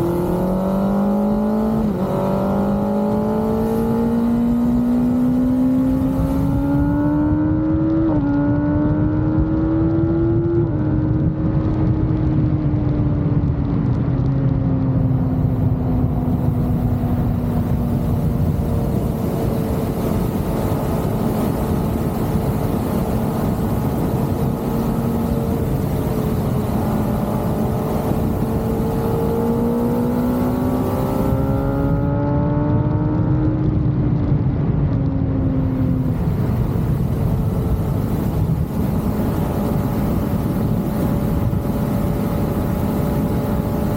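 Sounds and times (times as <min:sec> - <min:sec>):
motorcycle engine revving: 0:00.0 - 0:12.4, 0:14.6 - 0:43.9
wind rush: 0:00.0 - 0:43.9.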